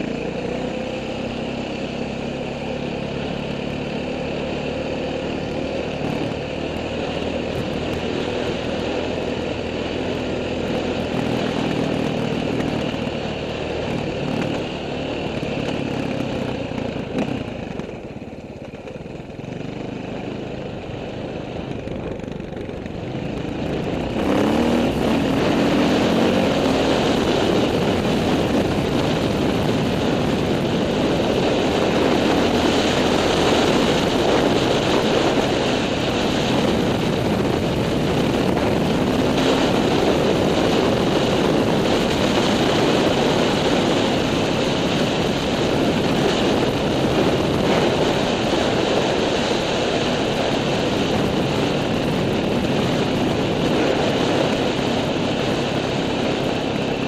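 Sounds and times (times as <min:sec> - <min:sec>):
off-road vehicle engine running: 0:00.0 - 0:57.0
wind and ride noise: 0:00.0 - 0:57.0.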